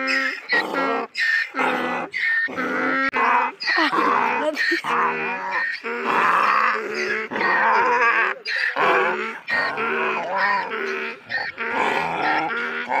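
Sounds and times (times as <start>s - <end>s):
donkey braying: 0.0s - 13.0s.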